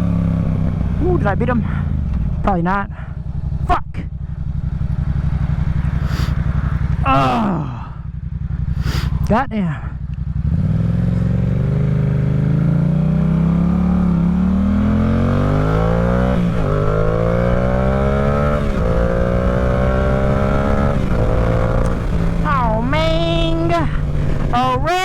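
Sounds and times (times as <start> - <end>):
motorcycle accelerating through gears: 0.0 - 9.3, 9.9 - 24.7.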